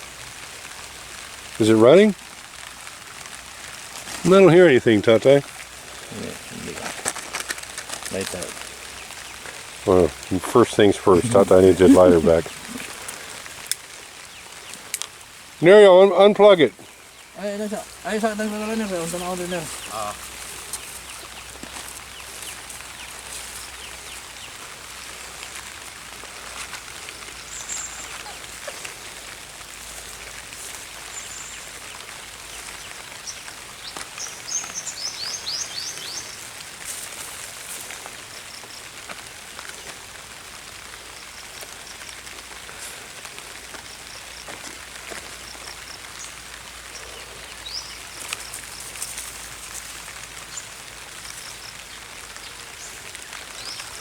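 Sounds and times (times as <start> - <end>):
light rain pattering: 0.0 - 54.0
birds chirping: 3.7 - 40.0, 40.8 - 54.0.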